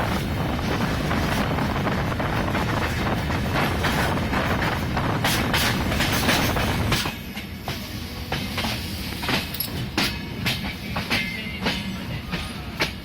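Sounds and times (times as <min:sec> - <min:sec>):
train rumbling on rails: 0:00.0 - 0:13.0
wheels clacking over rail joints: 0:02.6 - 0:13.0.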